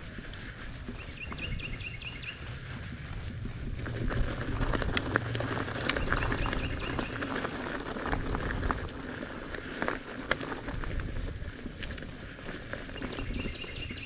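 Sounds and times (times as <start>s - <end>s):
bike rattling: 0.0s - 14.0s
bike tyres on grass: 0.0s - 14.0s
wind rumble on microphone: 0.0s - 14.0s.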